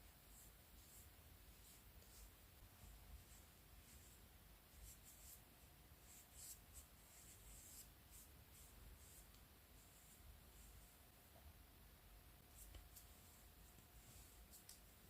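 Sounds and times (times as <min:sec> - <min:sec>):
soft scratching: 0:00.2 - 0:11.0, 0:12.4 - 0:15.0.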